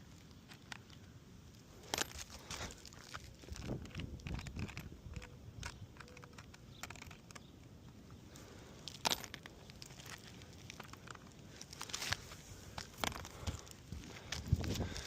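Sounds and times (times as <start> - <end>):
crunching and scraping on roof: 1.8 - 7.5, 8.2 - 15.0.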